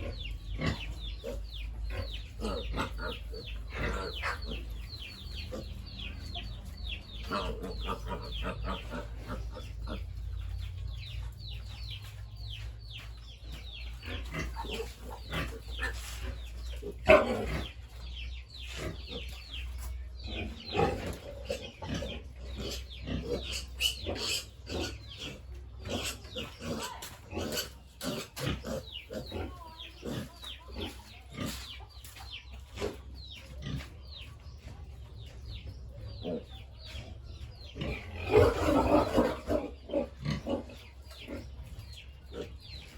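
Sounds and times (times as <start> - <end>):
pigs squealing and grunting: 0.0 - 11.1, 13.7 - 31.8, 36.0 - 42.9.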